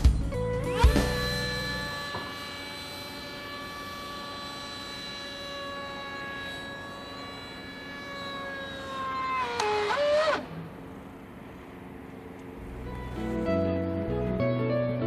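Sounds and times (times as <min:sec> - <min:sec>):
electric ducted fan whining: 0:00.0 - 0:15.0.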